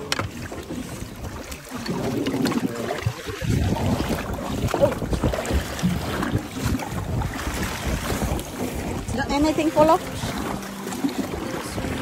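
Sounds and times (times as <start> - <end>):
water sloshing against boat: 0.0 - 12.0
wind on microphone: 0.0 - 12.0.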